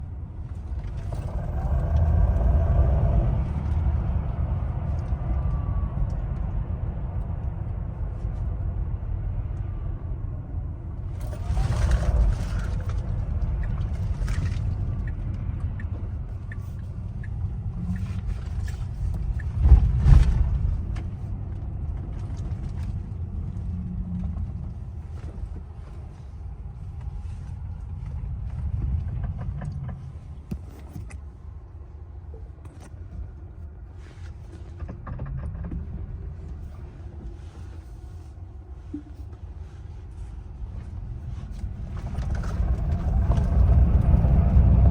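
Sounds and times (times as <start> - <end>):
car low rumble: 0.0 - 44.9.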